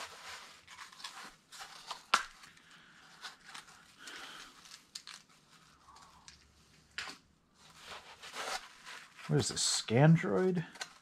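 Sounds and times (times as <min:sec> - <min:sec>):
soft rustling: 0:00.0 - 0:11.0.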